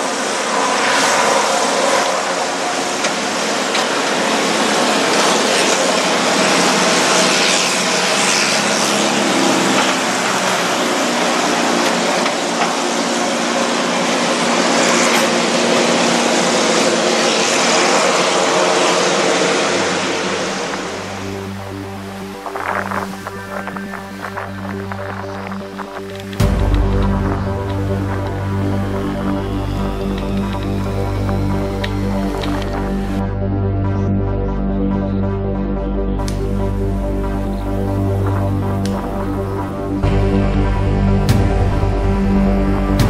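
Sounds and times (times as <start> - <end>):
turboprop engines running: 0.0 - 43.0.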